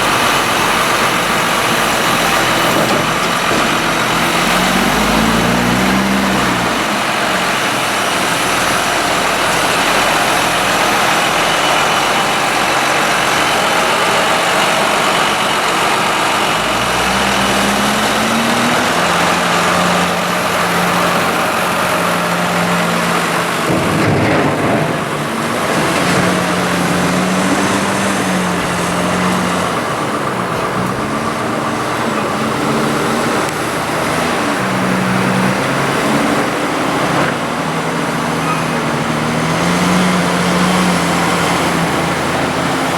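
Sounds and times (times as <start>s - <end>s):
diesel machinery engine revving: 0.0s - 42.9s.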